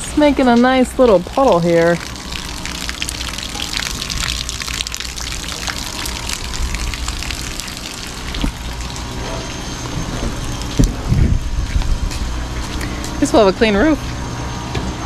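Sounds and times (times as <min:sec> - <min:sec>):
pressure washer water splashing: 0:00.0 - 0:13.9
low hum: 0:00.0 - 0:15.0.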